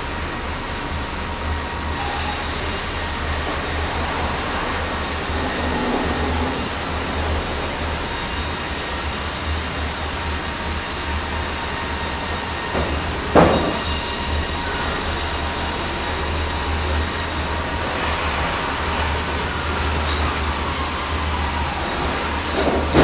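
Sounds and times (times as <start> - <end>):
squealing metallic saw whine: 1.6 - 23.0.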